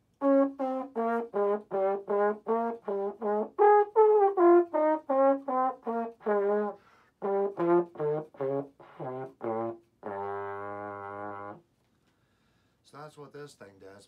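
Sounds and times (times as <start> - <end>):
valve trombone playing: 0.0 - 11.6.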